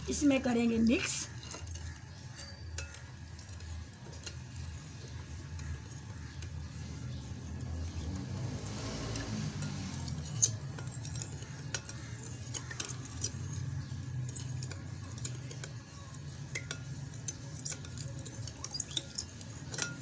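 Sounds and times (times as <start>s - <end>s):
metal spoon clinking glass bowl: 1.3s - 8.1s, 8.7s - 20.0s.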